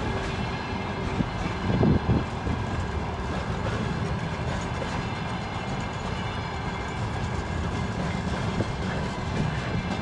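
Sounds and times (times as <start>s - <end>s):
steel wheels rumbling on rails: 0.0s - 10.0s.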